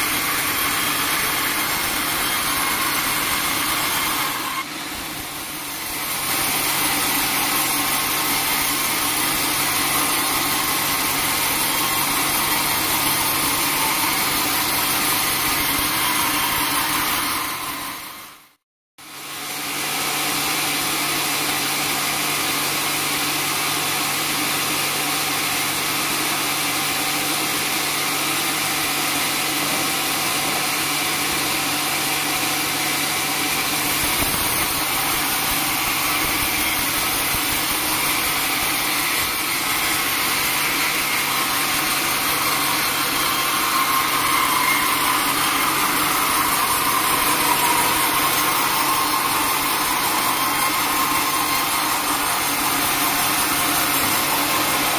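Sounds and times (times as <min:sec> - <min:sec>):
band sawmill running: 0:00.0 - 0:54.9.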